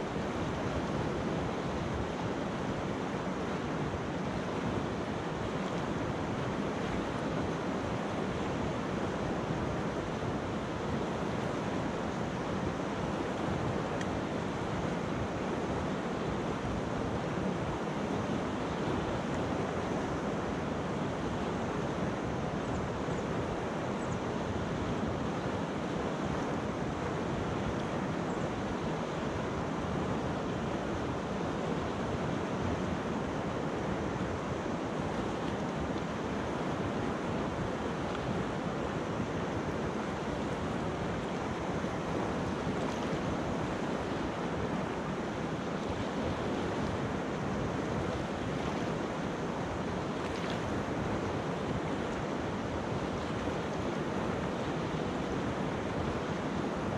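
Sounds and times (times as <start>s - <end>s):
river rushing over stones: 0.0s - 56.9s.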